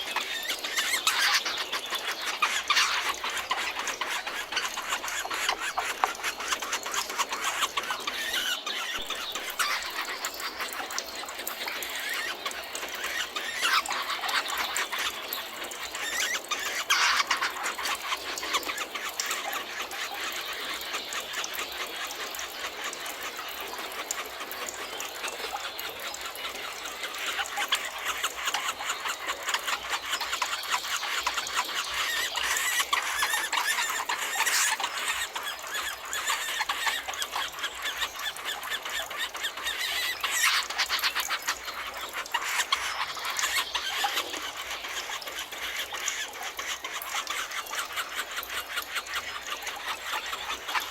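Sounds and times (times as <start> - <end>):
chorus of birds chattering: 0.0 - 50.9
loud bird calls: 0.0 - 50.9.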